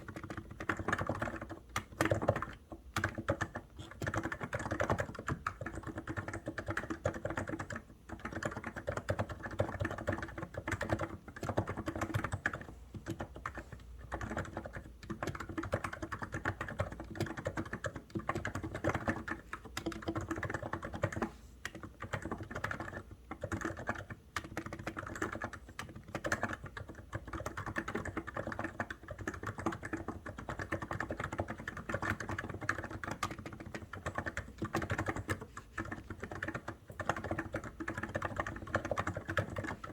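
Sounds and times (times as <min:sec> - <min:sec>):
keyboard typing clacks: 0:00.0 - 0:39.9.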